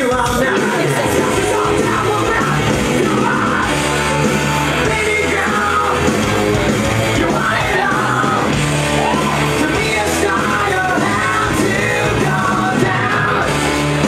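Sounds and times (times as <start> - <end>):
electric guitar: 0.0 - 14.0
heavy metal music: 0.0 - 14.0
person singing: 0.0 - 14.0.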